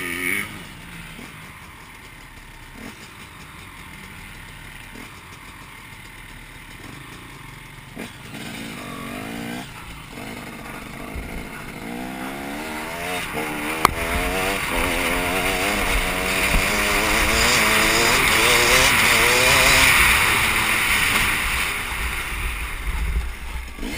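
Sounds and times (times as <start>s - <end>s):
motocross bike accelerating: 0.0s - 23.9s.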